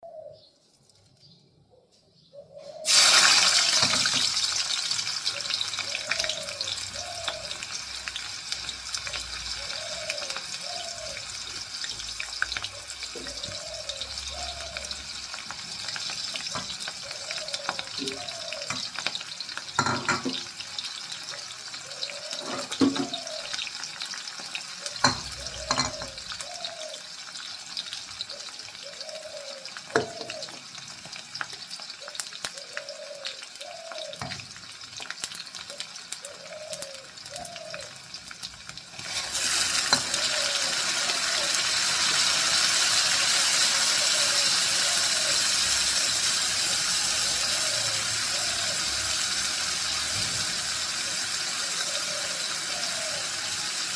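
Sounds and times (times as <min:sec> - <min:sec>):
fish sizzling in hot oil: 0:02.8 - 0:53.9.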